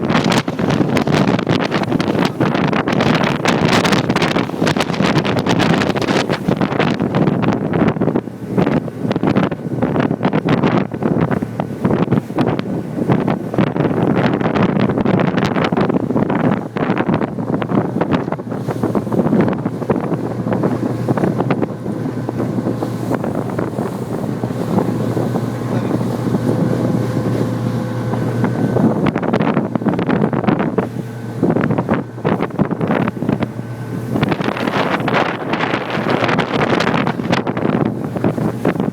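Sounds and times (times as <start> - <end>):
motorboat engine running: 0.0 - 38.9
wind buffeting microphone: 0.0 - 38.9.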